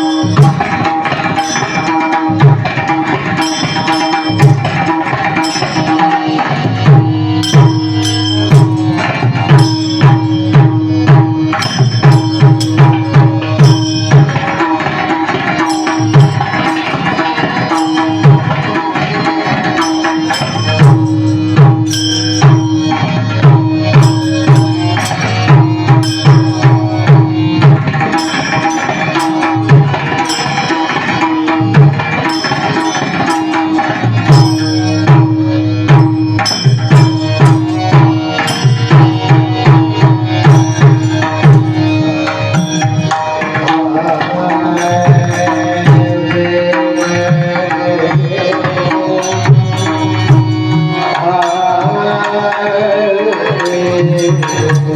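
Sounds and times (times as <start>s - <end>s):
hand drum rhythm: 0.0s - 54.9s
held melodic drone: 0.0s - 54.9s.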